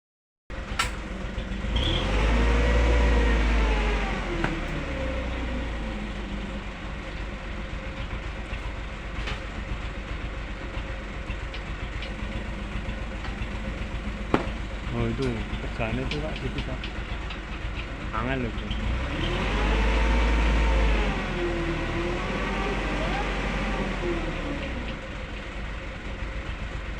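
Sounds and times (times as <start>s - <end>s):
traffic noise: 0.5s - 25.6s.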